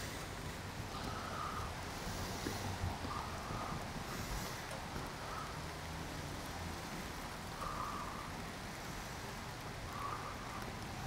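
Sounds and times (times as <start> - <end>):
rain falling steadily: 0.0 - 11.0.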